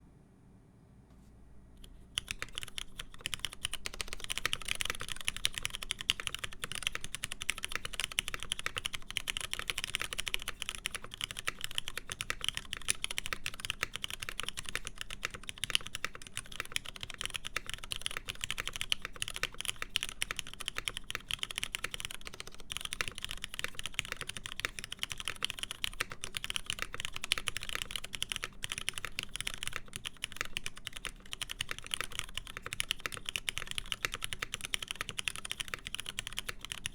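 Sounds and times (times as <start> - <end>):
fast typing on mechanical keyboard: 1.9 - 36.9.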